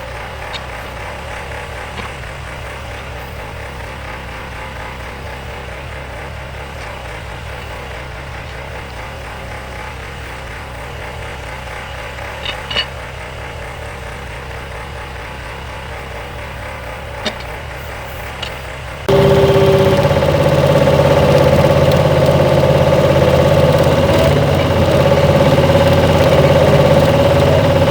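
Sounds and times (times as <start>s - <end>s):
loader engine running: 0.0s - 27.9s.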